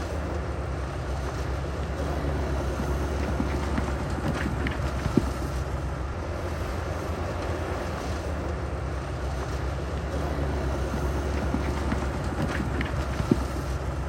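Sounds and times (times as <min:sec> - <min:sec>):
diesel engine rumbling under load: 0:00.0 - 0:14.0.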